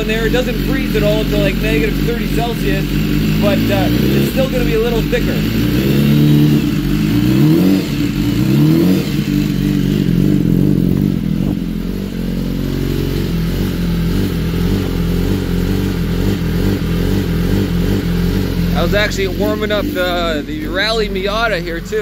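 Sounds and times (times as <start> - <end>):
motorcycle engine revving at idle: 0.0 - 22.0.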